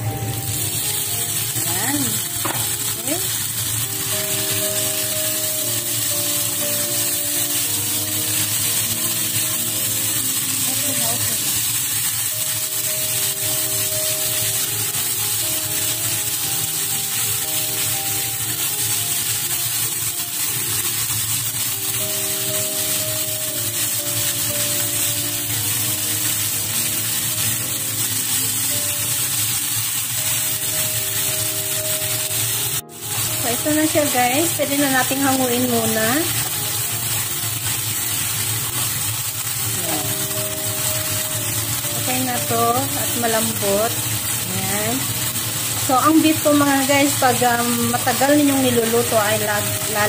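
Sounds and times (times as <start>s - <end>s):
background music: 0.0s - 50.0s
beef sizzling in a frying pan: 0.0s - 50.0s.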